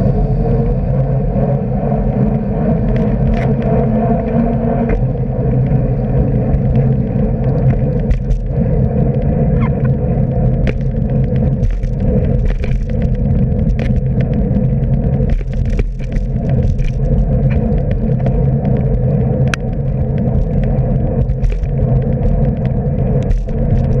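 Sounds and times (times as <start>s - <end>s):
wind and road noise: 0.0s - 24.0s
bicycle clicks and rattles: 2.2s - 24.0s.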